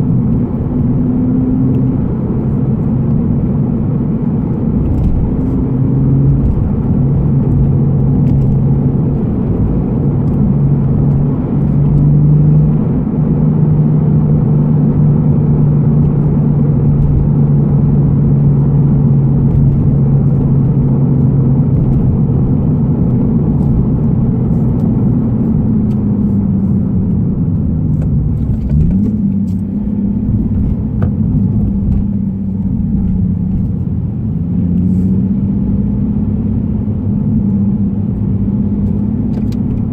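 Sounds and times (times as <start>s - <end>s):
car engine drone from inside cabin: 0.0s - 39.9s.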